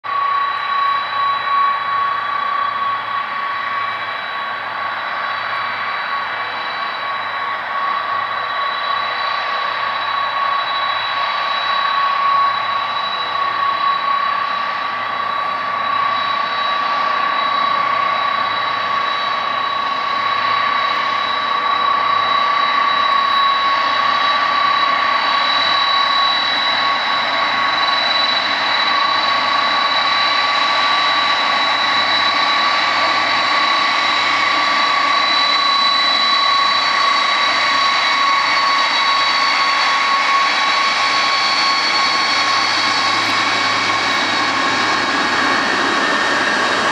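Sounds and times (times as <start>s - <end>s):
jet engine whine: 0.0s - 46.9s.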